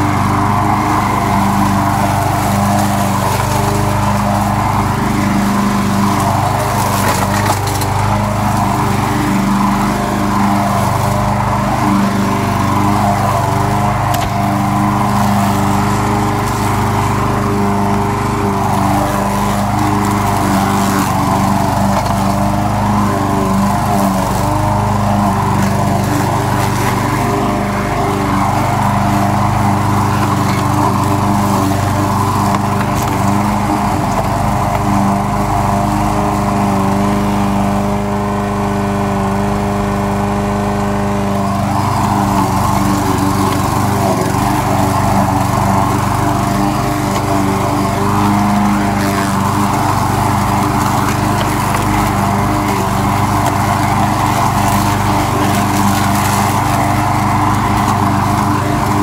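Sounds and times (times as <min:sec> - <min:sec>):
grass cutting noise: 0:00.0 - 0:59.0
lawn mower engine running: 0:00.0 - 0:59.0.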